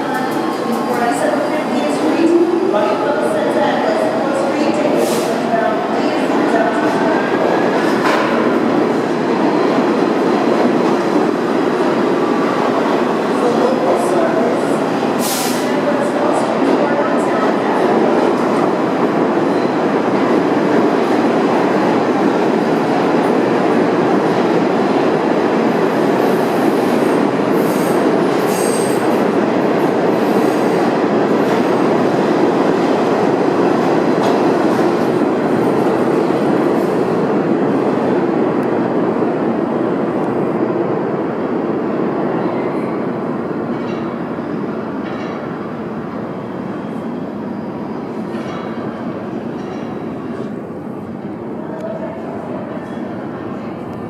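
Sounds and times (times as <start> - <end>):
subway train on tracks: 0.0 - 54.0.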